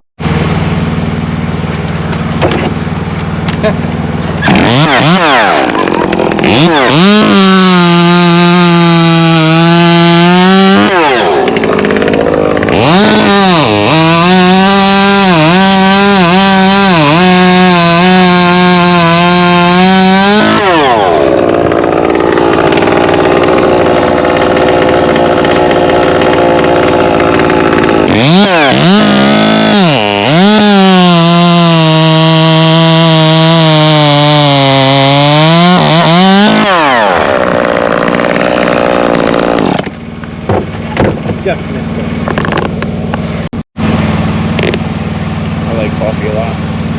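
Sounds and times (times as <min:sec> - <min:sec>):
chainsaw cutting wood: 0:00.2 - 0:46.9.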